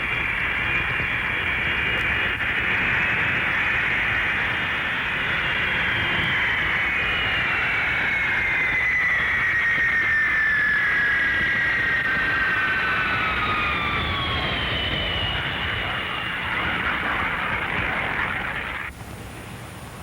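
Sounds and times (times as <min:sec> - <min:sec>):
jet airliner flying past: 0:00.0 - 0:20.0.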